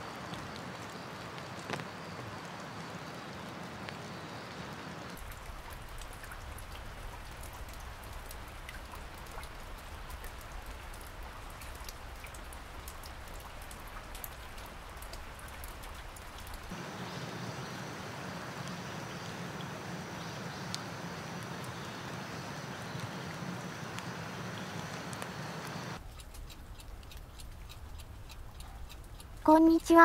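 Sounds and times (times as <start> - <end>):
rain drops ticking: 0.0 - 30.0.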